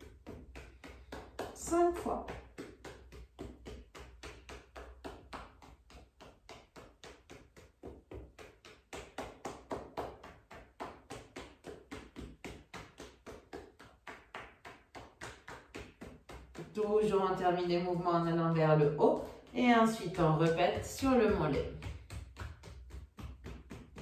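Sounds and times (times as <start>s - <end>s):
fists tapping on leg: 0.0s - 24.0s.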